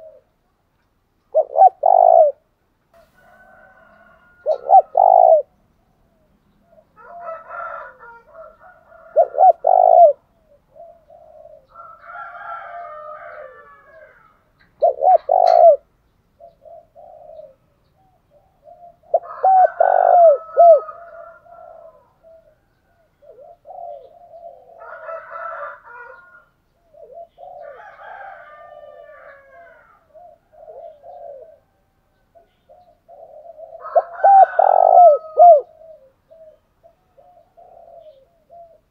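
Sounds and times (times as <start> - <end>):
doves cooing: 0.0 - 0.5, 1.3 - 2.5, 3.1 - 38.9.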